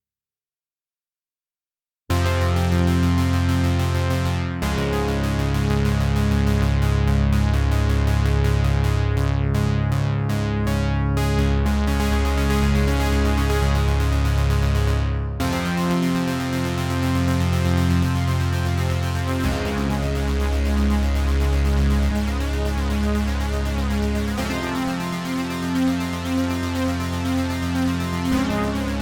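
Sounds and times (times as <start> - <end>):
synthesizer chords: 2.1 - 29.0.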